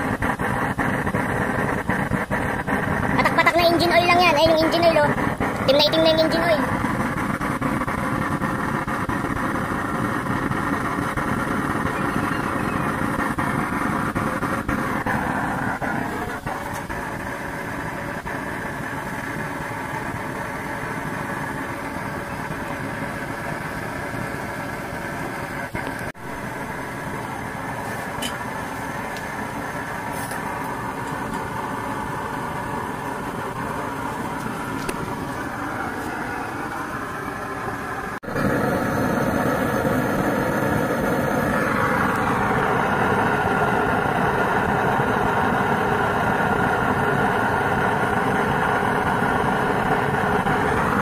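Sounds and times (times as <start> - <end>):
stove flame and blower rushing: 0.0 - 51.0.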